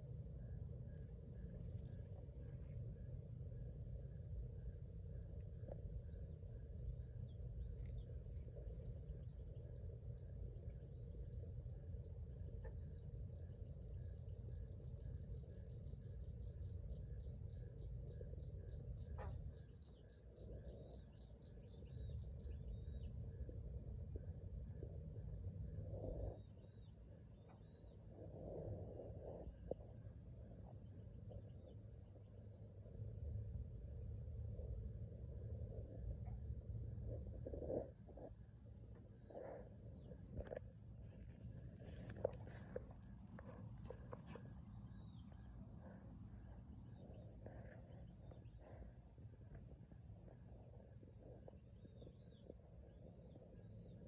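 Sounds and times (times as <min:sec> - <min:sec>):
frogs chirping: 0:00.0 - 0:54.0.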